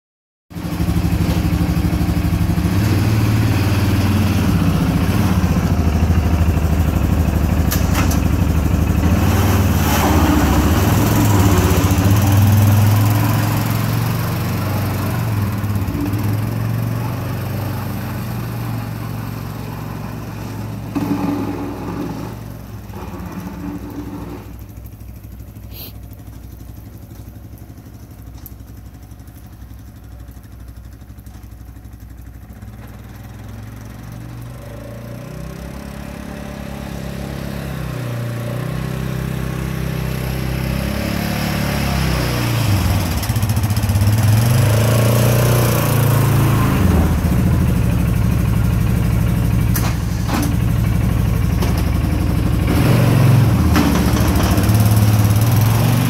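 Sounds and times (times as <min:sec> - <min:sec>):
atv engine running: 0:00.6 - 0:56.0.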